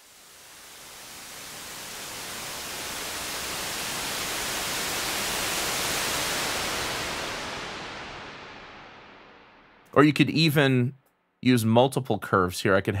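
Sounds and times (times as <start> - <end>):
white noise sweep with reverb: 0.0 - 10.8.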